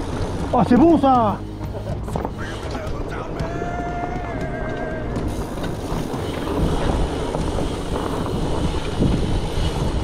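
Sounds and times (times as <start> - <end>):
bike knocks and rattles: 0.0 - 10.0
wind rushing over microphone: 2.0 - 10.0.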